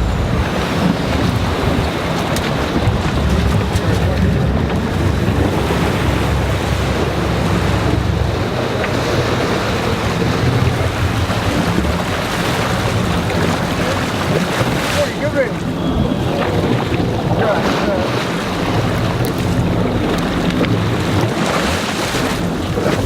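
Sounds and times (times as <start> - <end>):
boat engine drone: 0.0 - 23.0
rushing water: 0.0 - 23.0
wind buffeting microphone: 0.0 - 23.0.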